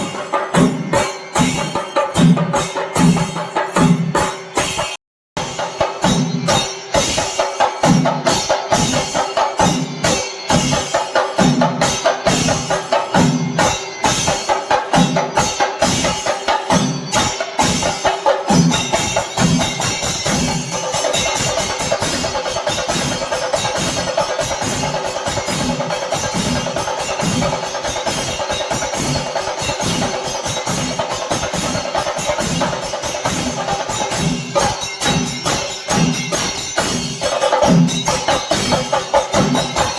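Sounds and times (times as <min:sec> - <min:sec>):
drum ensemble playing: 0:00.0 - 0:27.8, 0:28.5 - 0:39.9.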